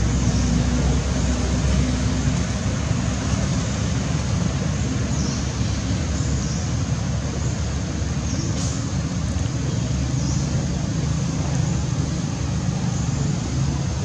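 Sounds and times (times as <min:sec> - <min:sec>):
motor vehicle rumble: 0:00.0 - 0:14.0.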